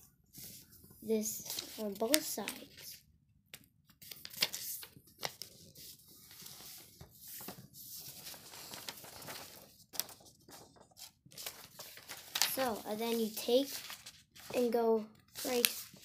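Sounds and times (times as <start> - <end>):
paper rustling and crinkling: 0.4 - 3.0, 4.0 - 16.0
paper folds crackling: 1.4 - 2.9, 4.0 - 16.0.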